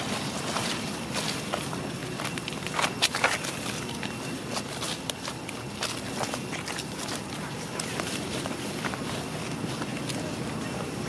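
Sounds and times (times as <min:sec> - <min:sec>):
footsteps through grass and leaves: 0:00.0 - 0:11.0.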